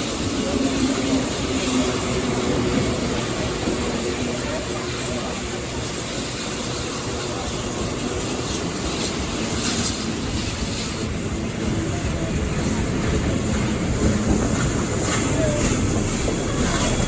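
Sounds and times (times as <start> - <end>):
train running noise: 0.0 - 17.0
wheels rumbling on rails: 0.0 - 17.0.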